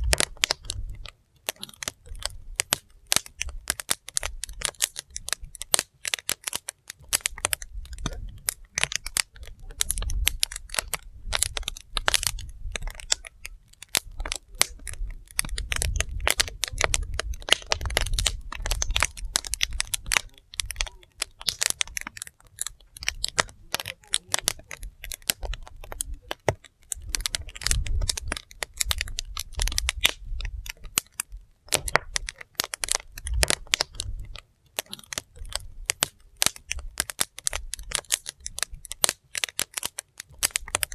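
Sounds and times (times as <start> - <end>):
low rumble of flame: 0.0 - 40.9
wood fire crackling: 0.0 - 40.9.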